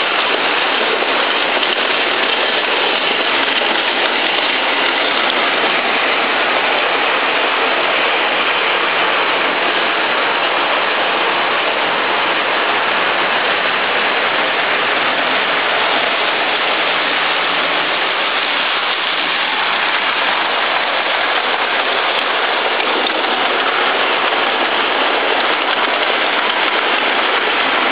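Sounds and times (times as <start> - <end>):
model trains rolling rattle: 0.0 - 27.9.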